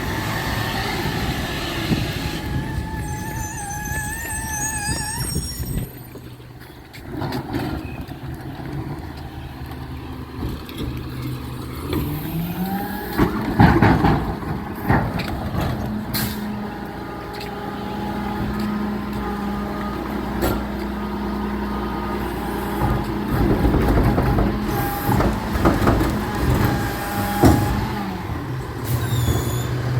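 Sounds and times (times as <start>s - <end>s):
brake squealing: 0.0s - 29.9s
diesel engine running: 0.0s - 29.9s.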